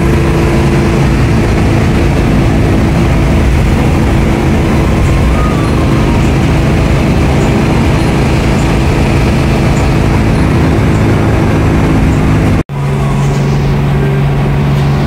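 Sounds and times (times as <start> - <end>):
bus engine drone: 0.0 - 15.0
rushing road and wind noise: 0.0 - 15.0.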